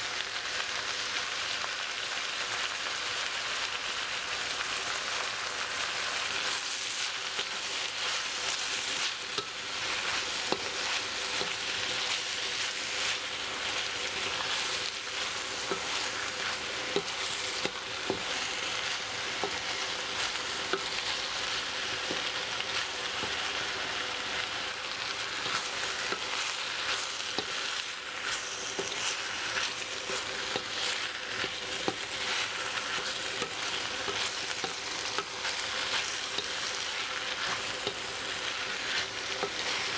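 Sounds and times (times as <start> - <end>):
food sizzling in a wok: 0.0 - 39.9
spatula scraping a pan: 6.3 - 24.5, 25.2 - 39.9.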